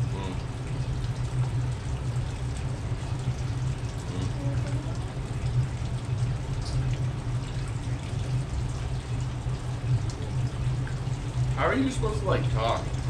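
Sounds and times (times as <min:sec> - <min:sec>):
aquarium pump low hum: 0:00.0 - 0:13.0
water trickling: 0:00.0 - 0:13.0.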